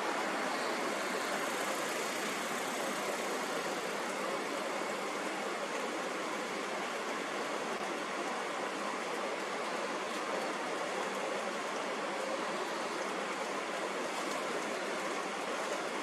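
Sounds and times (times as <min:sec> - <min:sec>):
steady hiss-like noise: 0:00.0 - 0:16.0.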